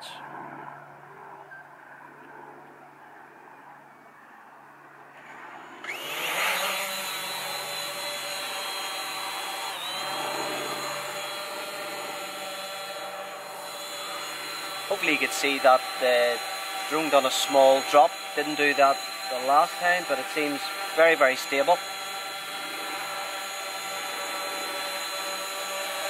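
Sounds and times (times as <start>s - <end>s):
drone propeller whine: 0.0s - 26.0s.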